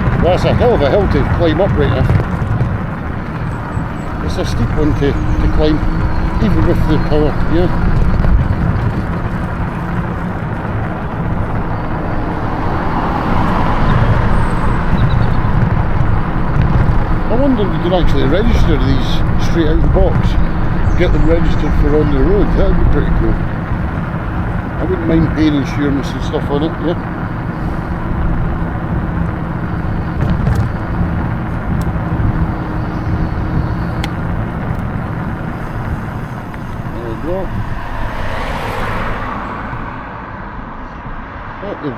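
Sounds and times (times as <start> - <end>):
faint clicks: 0.0 - 38.9
wind rush on microphone: 0.0 - 41.6
tyre and road noise: 0.0 - 41.9.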